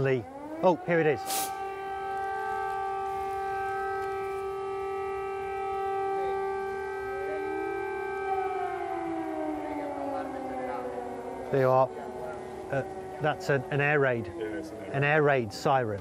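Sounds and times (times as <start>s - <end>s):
air raid siren wailing: 0.0s - 16.0s
fainter sirens rising in pitch: 0.0s - 16.0s.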